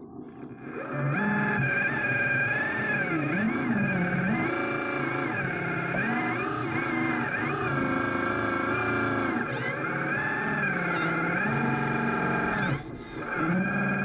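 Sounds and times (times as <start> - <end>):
model motors whining: 0.0 - 14.0.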